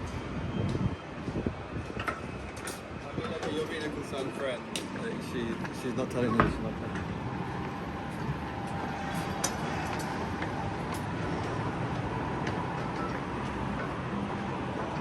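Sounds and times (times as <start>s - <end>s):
city background hum: 0.0s - 15.0s.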